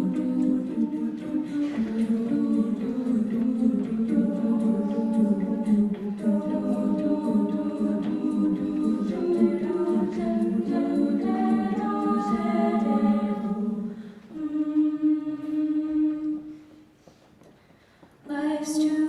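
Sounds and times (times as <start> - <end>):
a cappella group singing: 0.0 - 16.7, 18.3 - 19.0.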